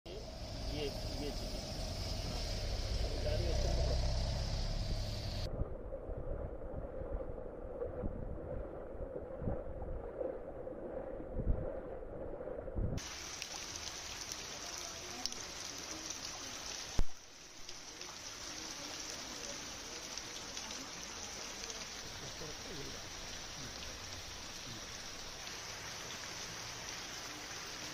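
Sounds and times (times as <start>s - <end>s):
rain and water washing: 0.1s - 27.9s.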